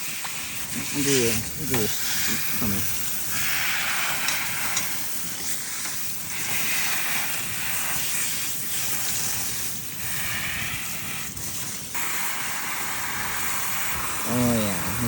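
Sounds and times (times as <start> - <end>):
shower spray hissing: 0.0 - 15.0.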